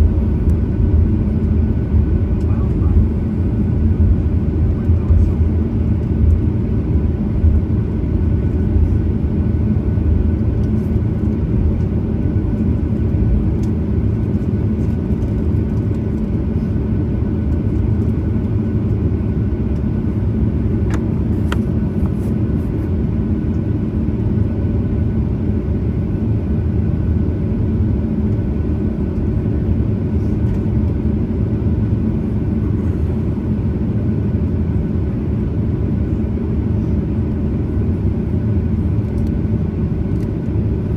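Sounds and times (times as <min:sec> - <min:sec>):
airplane cabin rumble: 0:00.0 - 0:40.9
faint engine whine: 0:00.0 - 0:40.9.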